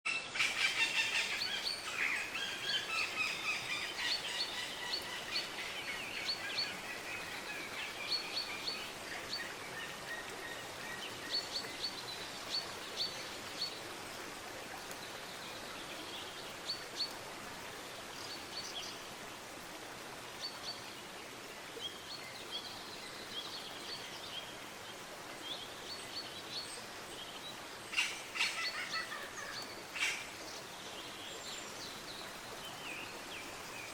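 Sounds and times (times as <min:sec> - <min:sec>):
outdoor background hiss: 0:00.1 - 0:33.9.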